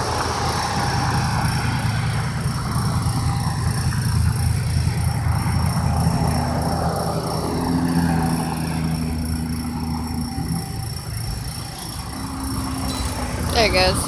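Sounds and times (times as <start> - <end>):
electric motors whining: 0.0 - 14.0
steady low hum: 0.0 - 14.0.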